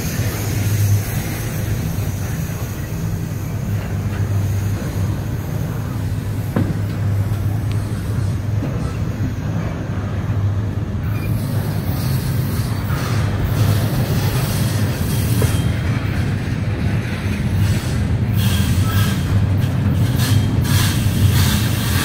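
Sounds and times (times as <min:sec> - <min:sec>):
freight train wheel and rail noise: 0:00.0 - 0:22.0.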